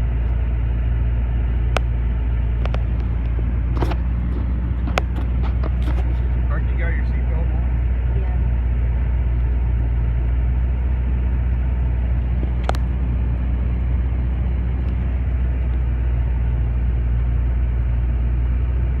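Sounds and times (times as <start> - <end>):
road noise inside cabin: 0.0 - 19.0
vehicle engine drone: 0.0 - 19.0.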